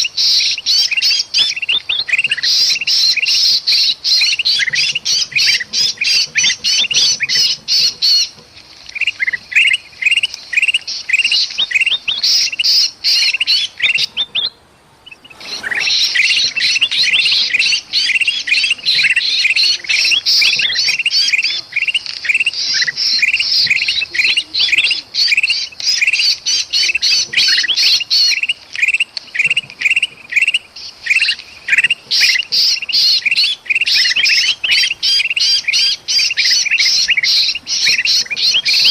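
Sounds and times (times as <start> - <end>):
bulbuls chirping rapidly: 0.0 - 38.9.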